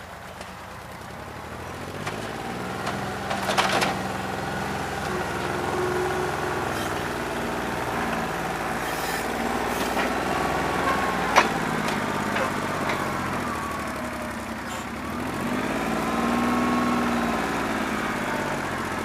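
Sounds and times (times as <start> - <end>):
rough diesel engine running: 0.0 - 19.0.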